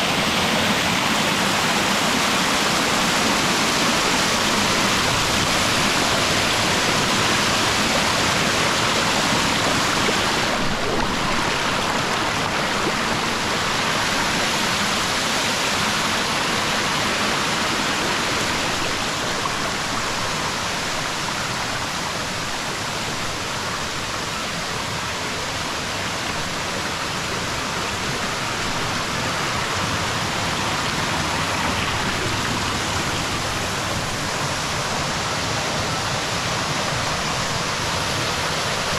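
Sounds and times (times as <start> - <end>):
small waterfall over rocks: 0.0 - 38.9.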